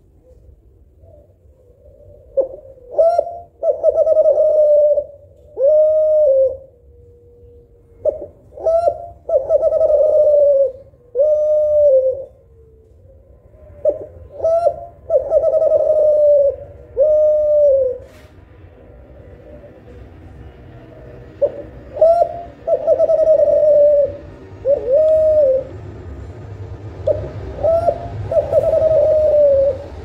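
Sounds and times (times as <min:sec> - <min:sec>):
dove cooing: 0:00.2 - 0:18.2, 0:21.2 - 0:26.1, 0:26.9 - 0:30.0.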